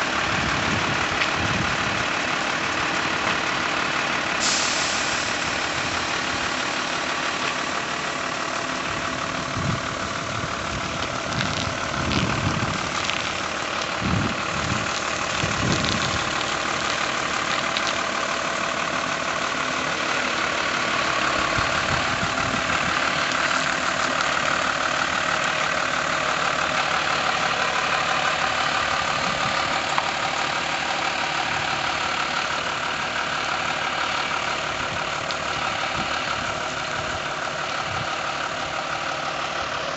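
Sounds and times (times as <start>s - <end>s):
lorry diesel engine running: 0.0s - 39.9s.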